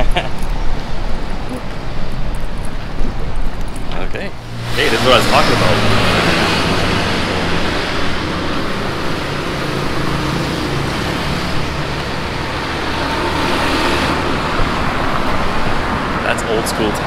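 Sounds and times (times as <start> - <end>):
road and air noise rushing: 0.0 - 17.0.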